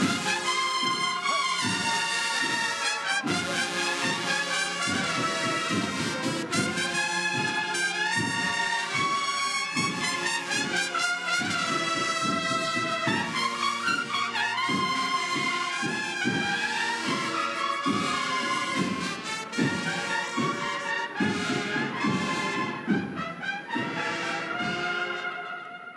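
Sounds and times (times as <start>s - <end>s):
steady drum rhythm: 0.0s - 25.2s
cornets playing held notes: 0.0s - 25.9s.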